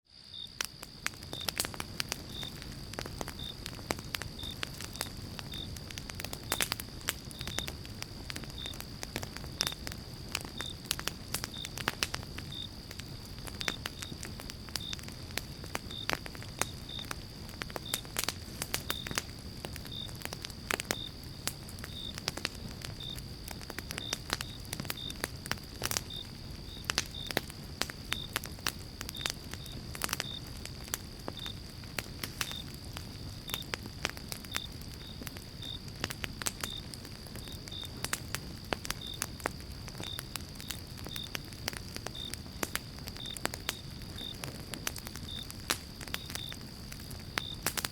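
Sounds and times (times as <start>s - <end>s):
fire crackling and snapping: 0.1s - 47.9s
low rumble of flames: 0.1s - 47.9s.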